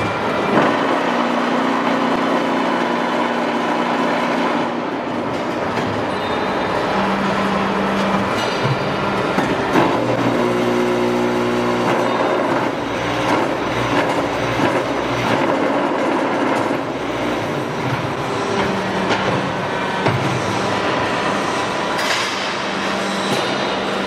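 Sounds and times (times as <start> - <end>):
block-making machine clattering: 0.0 - 3.1, 4.2 - 24.0
machine hum: 0.0 - 24.0.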